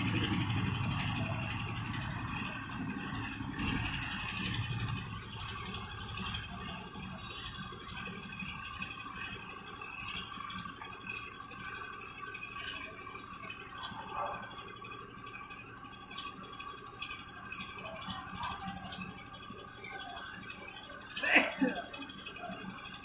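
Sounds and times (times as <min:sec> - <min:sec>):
engine hum: 0:00.0 - 0:23.0.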